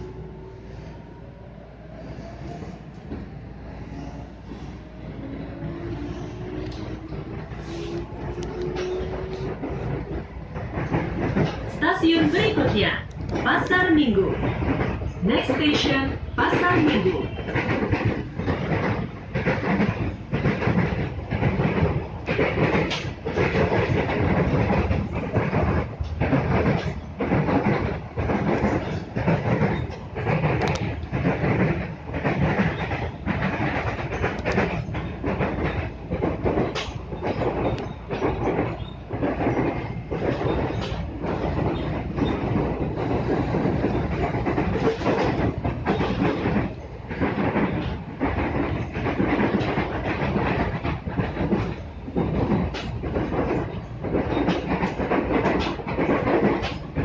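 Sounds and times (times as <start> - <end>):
train rumbling with clattering wheels: 0.0 - 57.0.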